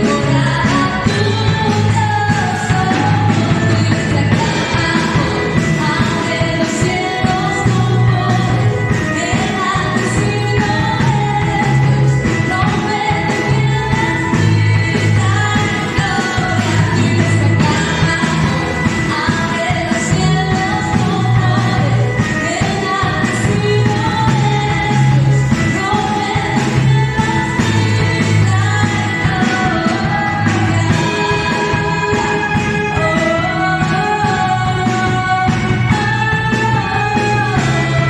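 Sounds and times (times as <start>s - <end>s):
band with beat and bass: 0.0s - 38.0s
person singing: 0.0s - 38.0s.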